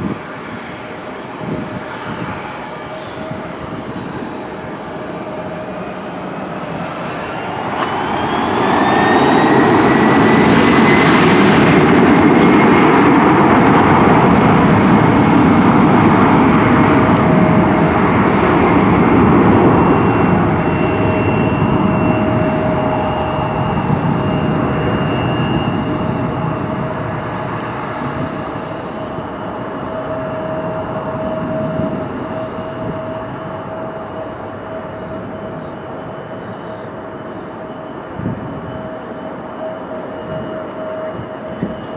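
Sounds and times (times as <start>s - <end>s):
jet engines roaring past: 0.0s - 41.9s.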